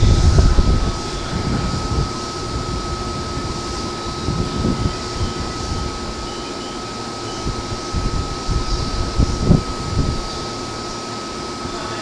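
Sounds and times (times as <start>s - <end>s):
constant high whine: 0.0s - 12.0s
hum and rush of fans: 0.0s - 12.0s.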